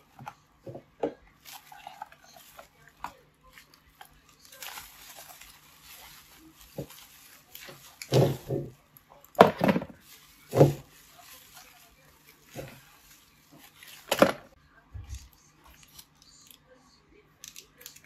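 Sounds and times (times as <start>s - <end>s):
bubble wrap crinkling: 0.0s - 16.8s.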